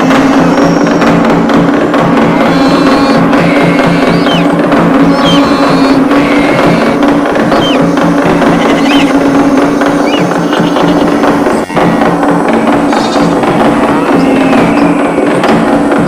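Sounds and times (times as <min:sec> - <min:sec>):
sliding high chirps: 0:00.0 - 0:01.3, 0:02.3 - 0:15.3
drum-driven music: 0:00.0 - 0:16.0.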